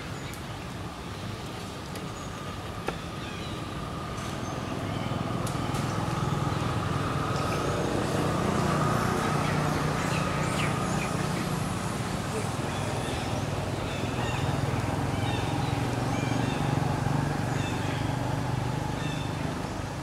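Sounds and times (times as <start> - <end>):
vehicle engine rumble passing: 1.8 - 20.0.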